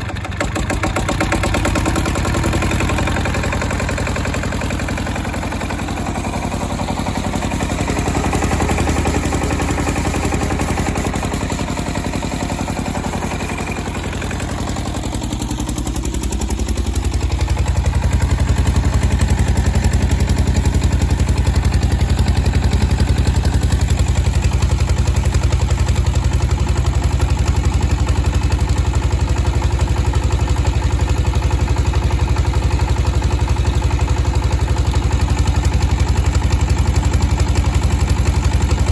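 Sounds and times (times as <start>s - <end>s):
engine driving a generator: 0.0s - 38.9s.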